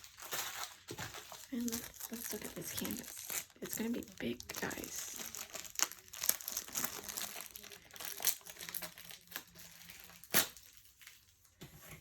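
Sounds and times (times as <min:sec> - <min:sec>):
canvas crinkling and crackling: 0:00.0 - 0:11.4.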